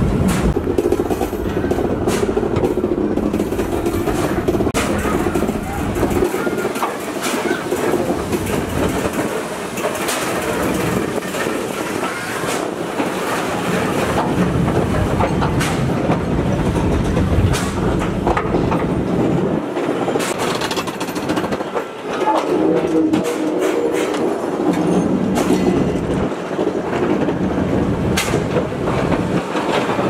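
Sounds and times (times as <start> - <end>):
railway carriage rumbling: 0.0 - 30.0
wheels clacking over rail joints: 0.0 - 30.0.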